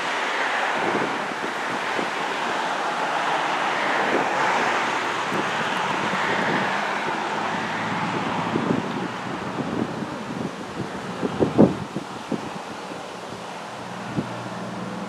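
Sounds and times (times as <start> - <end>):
wind buffeting microphone: 0.0 - 15.0
wind rushing through trees: 0.0 - 15.0.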